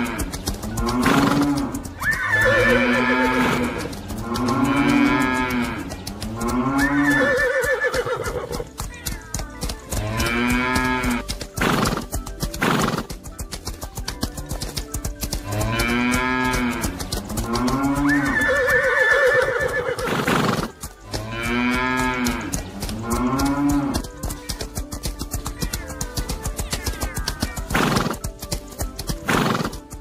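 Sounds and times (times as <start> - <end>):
fast steady pounding: 0.0 - 30.0.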